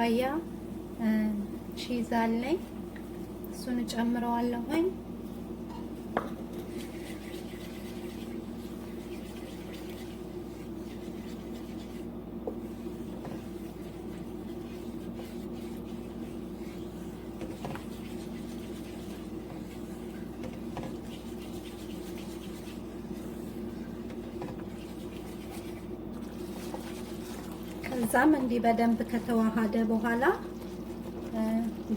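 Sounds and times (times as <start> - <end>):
steady low hum: 0.0 - 31.9
spoon scraping and stirring in a pot: 5.7 - 31.9.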